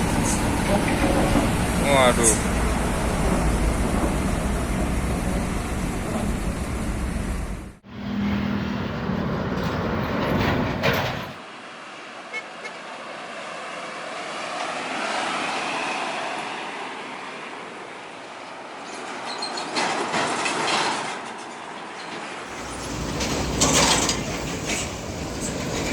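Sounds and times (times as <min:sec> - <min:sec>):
trucks passing on road: 0:00.0 - 0:25.9.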